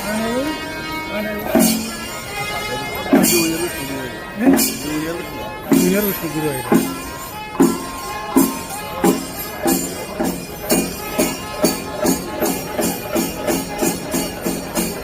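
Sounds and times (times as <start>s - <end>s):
jingling percussion music: 0.0s - 15.0s.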